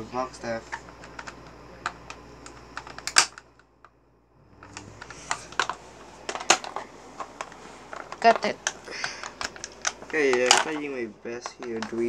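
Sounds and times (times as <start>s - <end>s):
plastic packaging clicking and crackling: 0.4s - 3.7s, 4.6s - 12.0s.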